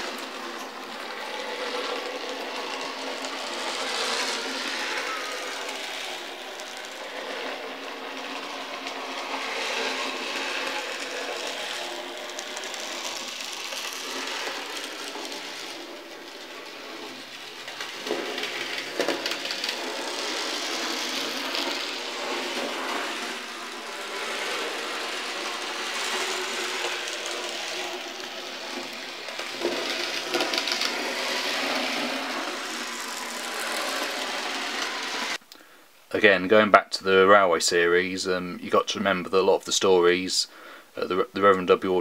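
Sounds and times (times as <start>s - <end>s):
model locomotive motor whirring: 0.0s - 35.4s.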